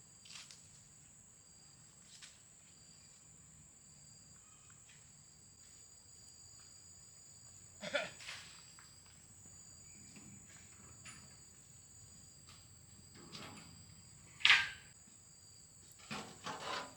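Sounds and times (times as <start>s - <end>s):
insects trilling: 0.2s - 16.9s.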